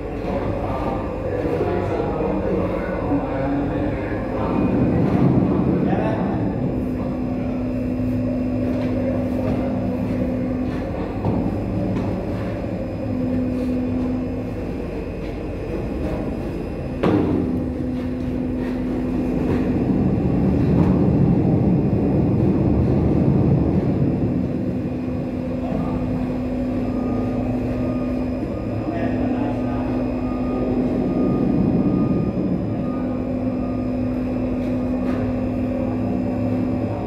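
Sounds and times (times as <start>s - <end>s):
machinery rumble: 0.0s - 37.0s
steady hum: 0.0s - 37.0s.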